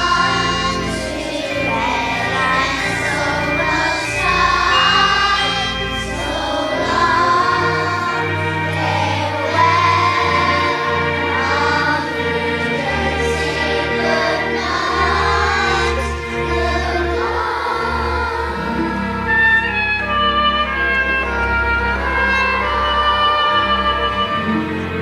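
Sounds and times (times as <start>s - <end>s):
children singing together: 0.0s - 20.2s
recorded musical accompaniment: 0.0s - 25.0s.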